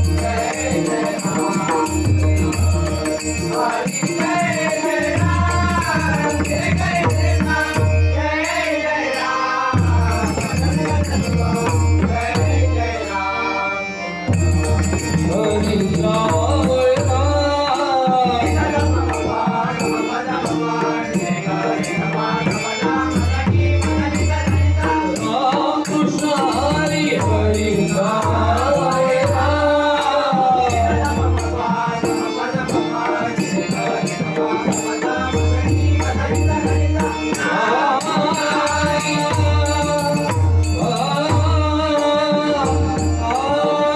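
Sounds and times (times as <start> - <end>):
person singing devotional song: 0.0 - 43.9.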